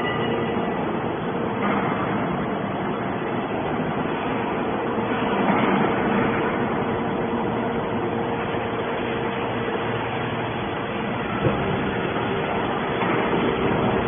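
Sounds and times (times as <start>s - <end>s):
baler machine drone: 0.0s - 14.0s.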